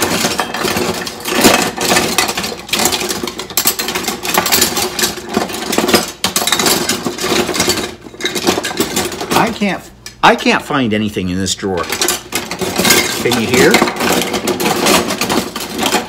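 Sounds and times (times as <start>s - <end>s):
metal utensils clattering in drawer: 0.0s - 9.7s, 11.8s - 16.0s.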